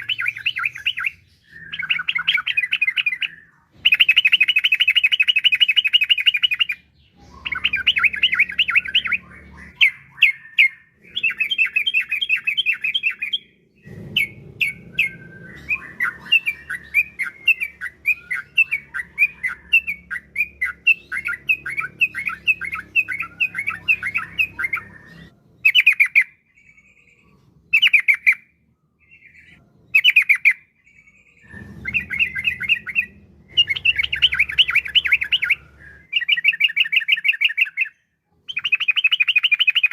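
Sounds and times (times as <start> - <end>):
bird singing rolling trills: 0.0 - 39.9.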